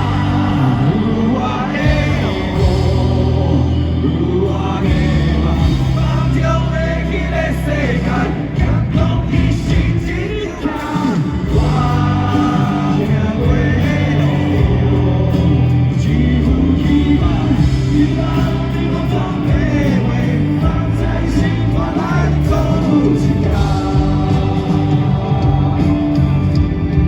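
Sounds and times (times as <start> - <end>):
lead singer singing: 0.0 - 27.0
live rock band playing: 0.0 - 27.0.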